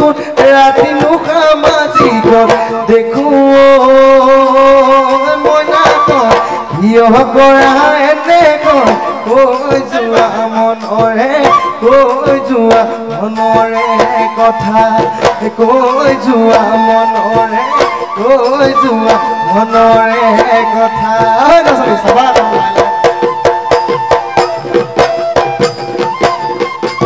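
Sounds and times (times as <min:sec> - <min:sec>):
drums beating quick rhythm: 0:00.0 - 0:27.0.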